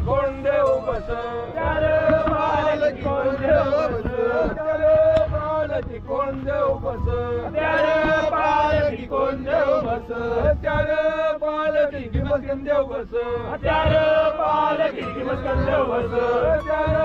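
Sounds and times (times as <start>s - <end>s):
low thuds: 0.0s - 17.0s
men chanting: 0.0s - 17.0s.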